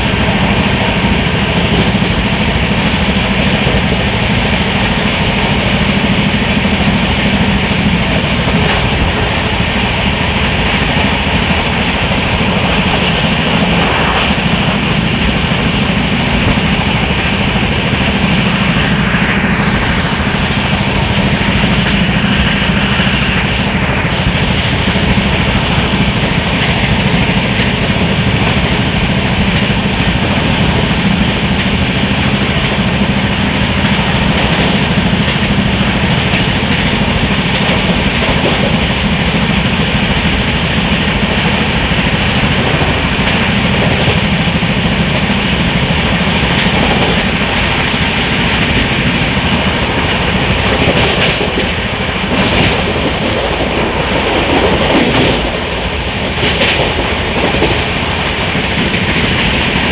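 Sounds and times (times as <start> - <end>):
rushing air: 0.0 - 59.9
train wheels rumbling on rails: 0.0 - 59.9.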